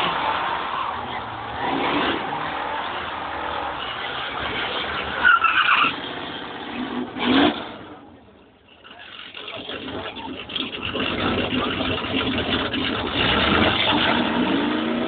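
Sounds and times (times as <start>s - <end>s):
car engine at high revs: 0.0s - 8.1s, 9.2s - 15.0s
tyres skidding on pavement: 0.0s - 15.0s.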